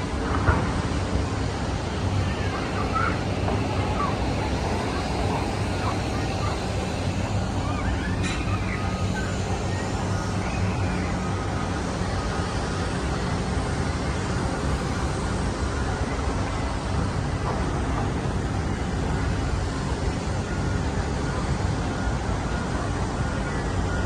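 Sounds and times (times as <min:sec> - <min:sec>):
road rumble: 0:00.0 - 0:21.4.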